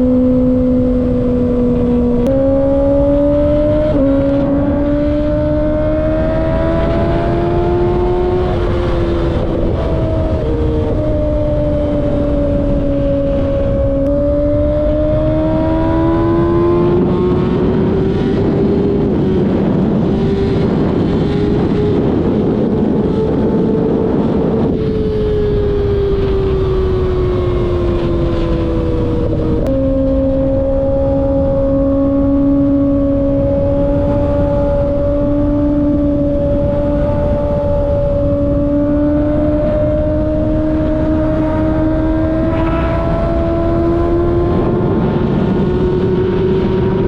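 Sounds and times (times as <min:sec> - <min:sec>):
motorcycle engine revving: 0:00.0 - 0:47.0
wind on microphone: 0:00.0 - 0:47.0.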